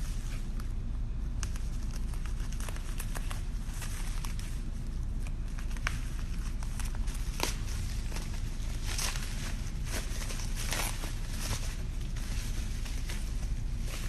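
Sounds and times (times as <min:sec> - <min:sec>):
low background hum: 0:00.0 - 0:14.0
packing material crinkling: 0:01.4 - 0:14.0.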